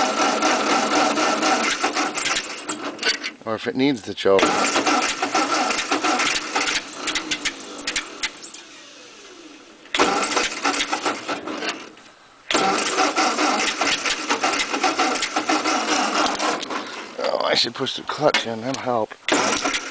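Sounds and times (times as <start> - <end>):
engine starter cranking: 0.0 - 3.4, 4.3 - 17.4, 19.3 - 19.9.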